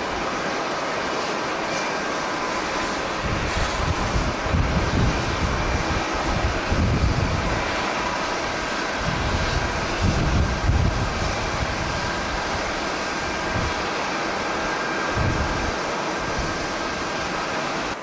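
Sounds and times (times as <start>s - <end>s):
jet engines running: 0.0s - 18.0s
wind buffeting microphone: 2.4s - 18.0s.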